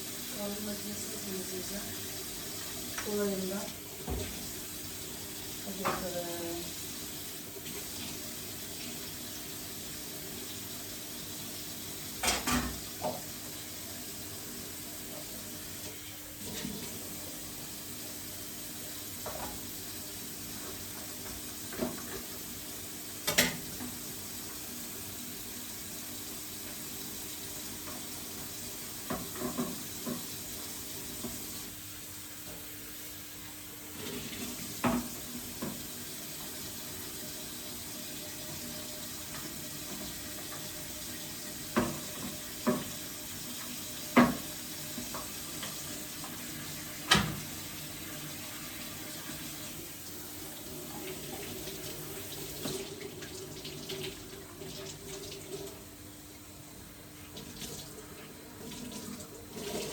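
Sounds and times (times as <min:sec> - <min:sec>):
water running: 0:00.0 - 0:59.9.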